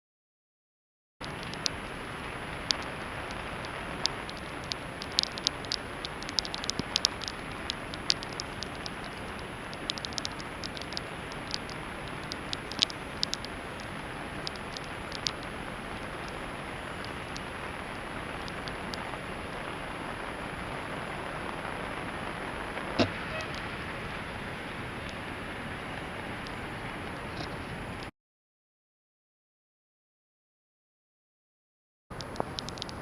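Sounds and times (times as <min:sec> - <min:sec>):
heavy rain falling: 0:01.2 - 0:28.1, 0:32.1 - 0:33.0
raindrops tapping close by: 0:01.2 - 0:28.1, 0:32.1 - 0:33.0.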